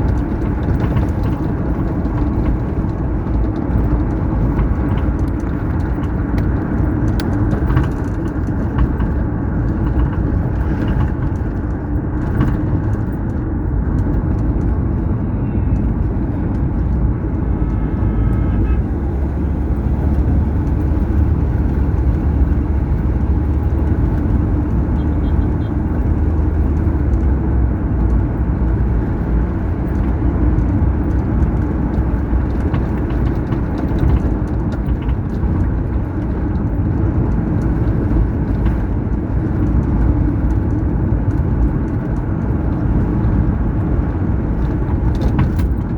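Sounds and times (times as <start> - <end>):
car driving on highway: 0.0 - 45.9.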